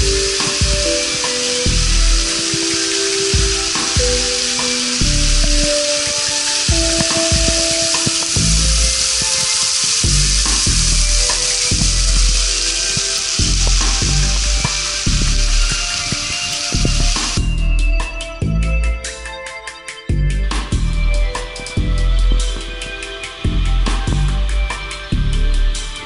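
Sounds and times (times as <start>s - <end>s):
waterfall hissing: 0.0s - 17.5s, 21.3s - 25.2s
low rumbles: 0.0s - 19.1s, 20.1s - 26.0s
background music with held notes: 0.0s - 26.0s.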